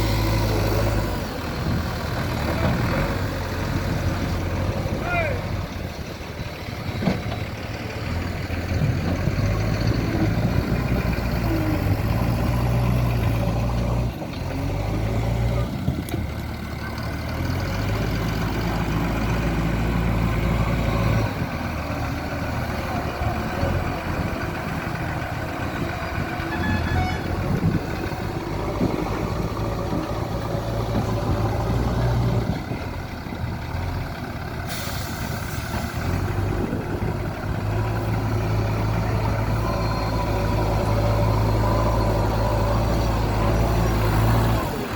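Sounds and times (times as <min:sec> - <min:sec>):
diesel engine working under load: 0:00.0 - 0:44.9.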